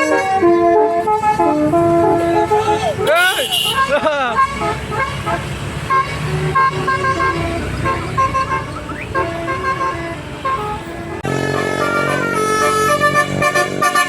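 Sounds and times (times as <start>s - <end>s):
bus engine low rumble: 0.0s - 14.0s
bus horn playing tooting melody: 0.0s - 14.0s.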